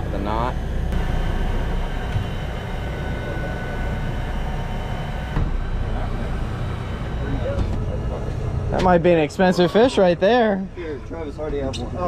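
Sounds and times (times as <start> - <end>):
boat engines droning: 0.0 - 12.0
faint whining tones: 0.0 - 12.0.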